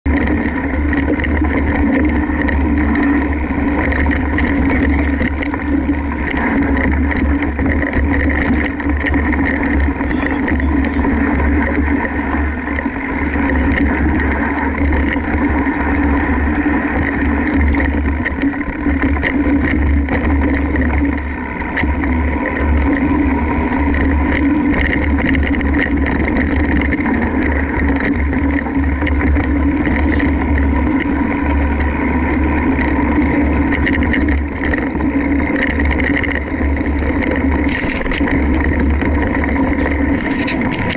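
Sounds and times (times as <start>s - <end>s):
wind rumble: 0.0s - 40.9s
bike riding over rocky trail: 0.1s - 40.9s.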